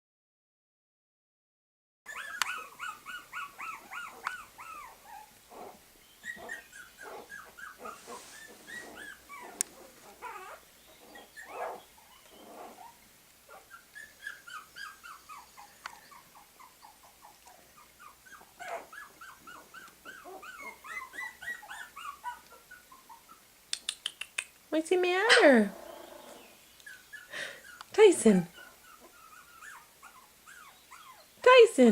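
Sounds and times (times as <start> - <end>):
puppies whimpering and crying: 2.1 - 23.5, 25.0 - 31.7.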